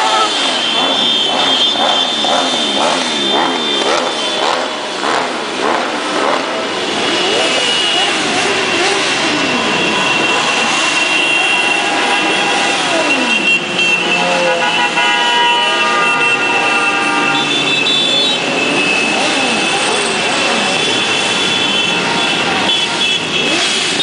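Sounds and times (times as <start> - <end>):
motorcycle horns: 0.0 - 24.0.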